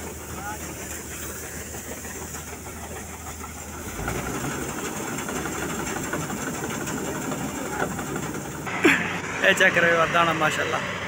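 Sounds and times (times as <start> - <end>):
unloading auger running: 0.0 - 9.1
combine harvester engine running: 0.0 - 11.0.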